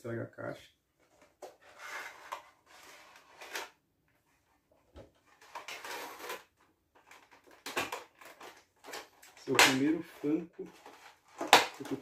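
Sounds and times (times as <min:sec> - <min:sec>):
cardboard and plastic rustling: 0:01.0 - 0:12.0.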